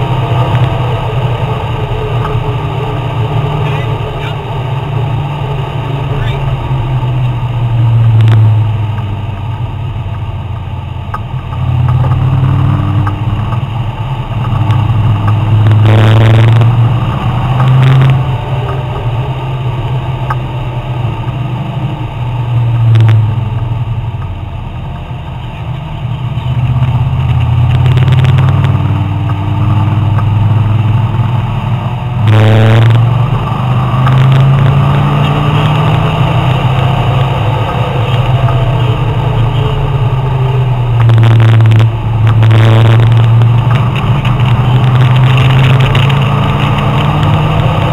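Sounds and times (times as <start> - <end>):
sports car engine revving: 0.0 - 24.4, 25.0 - 47.9.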